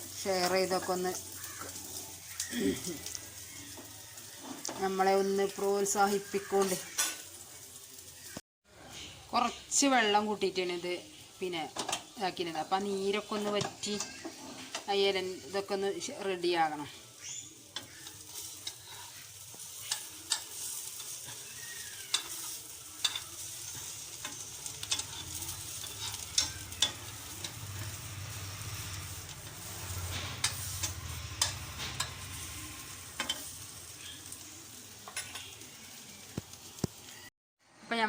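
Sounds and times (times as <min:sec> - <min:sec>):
omelette sizzling in a pan: 0:00.0 - 0:37.3.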